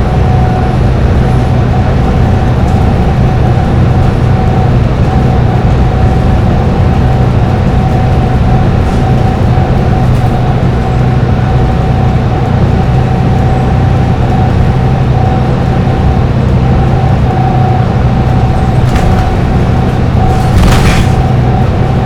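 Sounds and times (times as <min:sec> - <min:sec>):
bus engine drone: 0:00.0 - 0:22.0
high steady whine: 0:00.0 - 0:22.0.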